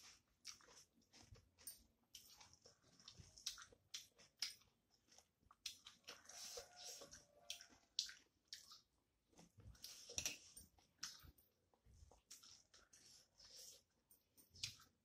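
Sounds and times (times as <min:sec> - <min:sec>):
wet mouth chewing: 0:00.0 - 0:09.0, 0:09.7 - 0:13.9.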